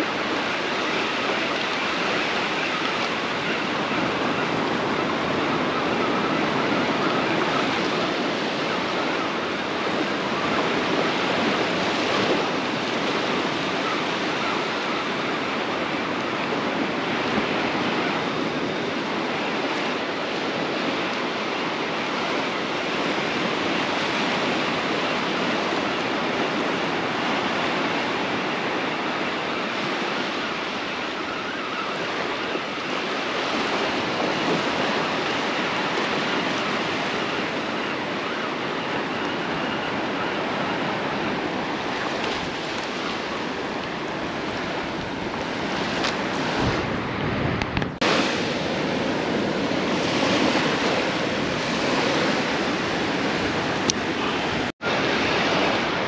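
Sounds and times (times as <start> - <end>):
ocean surf breaking: 0.0 - 56.0
wind on microphone: 0.0 - 56.0.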